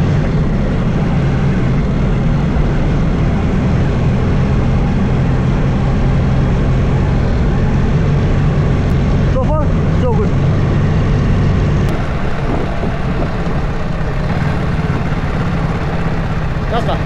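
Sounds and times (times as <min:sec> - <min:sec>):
tyre and wind noise: 0:00.0 - 0:16.8
vehicle engine humming: 0:00.0 - 0:17.0.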